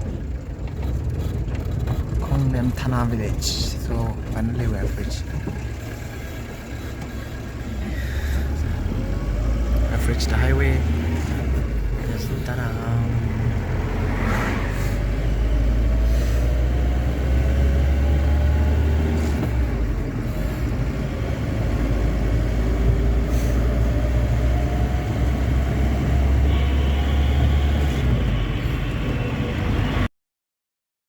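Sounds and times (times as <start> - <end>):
road and engine rumble: 0.0 - 30.1.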